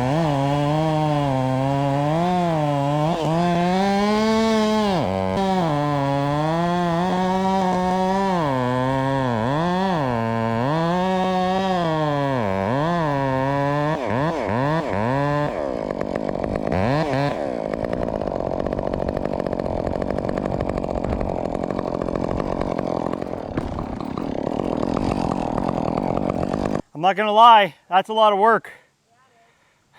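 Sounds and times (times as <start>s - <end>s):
chainsaw cutting wood: 0.0s - 26.9s
chainsaw engine revving: 0.0s - 26.9s.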